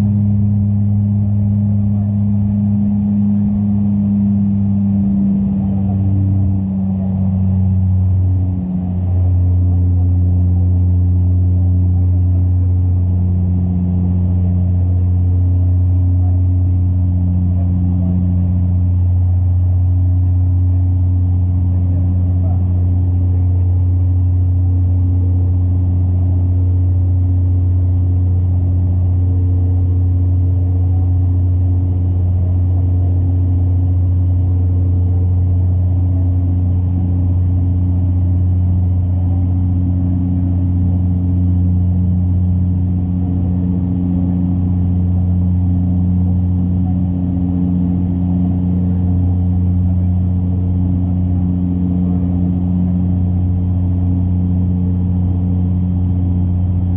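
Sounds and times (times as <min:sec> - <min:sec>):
propeller drone inside cabin: 0:00.0 - 0:56.9.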